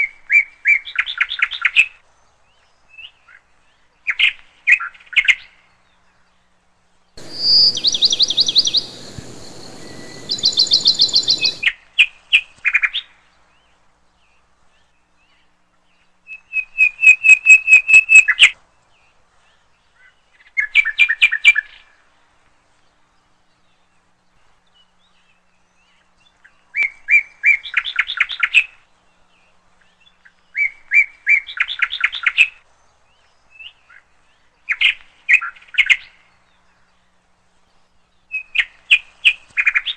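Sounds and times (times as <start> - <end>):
small songbirds chirping: 0.1 - 11.7, 13.0 - 39.9.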